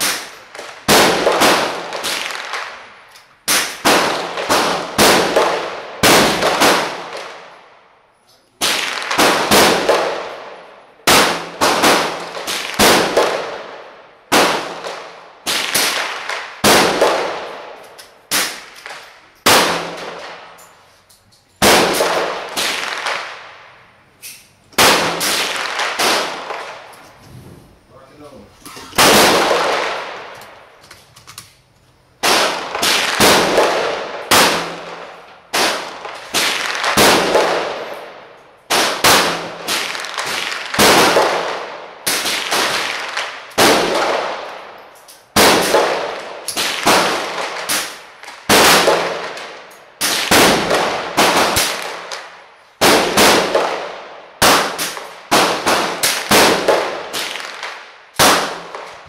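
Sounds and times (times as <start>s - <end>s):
rifle shots echoing: 0.0s - 2.9s, 3.5s - 7.6s, 8.6s - 20.6s, 21.6s - 23.6s, 24.8s - 26.9s, 29.0s - 30.8s, 32.2s - 59.0s.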